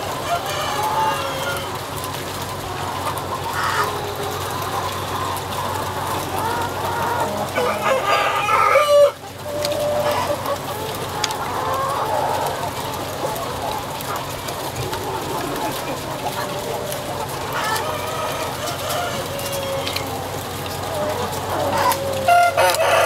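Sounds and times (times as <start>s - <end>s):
chickens clucking and calling: 0.0s - 23.0s.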